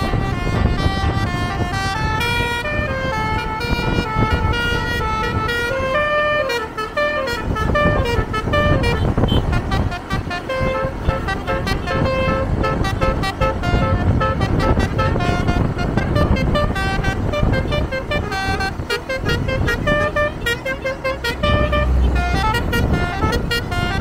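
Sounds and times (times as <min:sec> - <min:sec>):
low road rumble: 0:00.0 - 0:24.0
musical air horn melody: 0:00.0 - 0:24.0.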